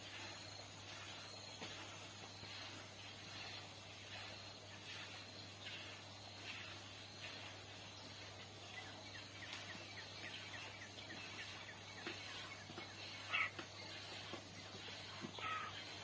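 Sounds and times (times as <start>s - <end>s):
faint bird chirps: 0.0s - 16.0s
steady low hum: 0.0s - 16.0s.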